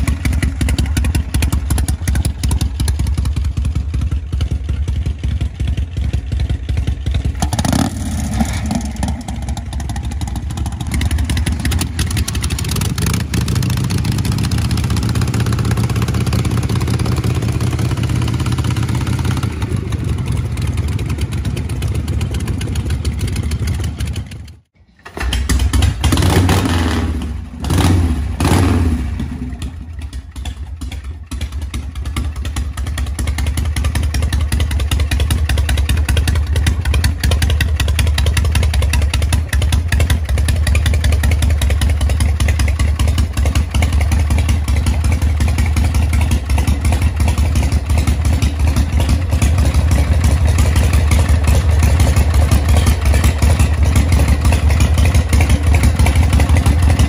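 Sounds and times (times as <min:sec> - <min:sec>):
motorcycle engine revving and idling: 0:00.0 - 0:57.0.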